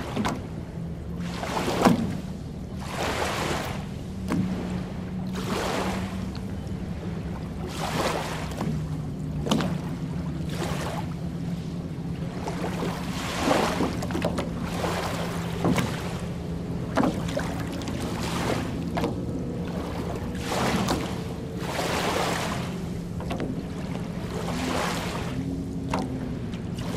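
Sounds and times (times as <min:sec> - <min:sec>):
small waves lapping on shore: 0:00.0 - 0:26.9
steady low hum: 0:00.0 - 0:26.9.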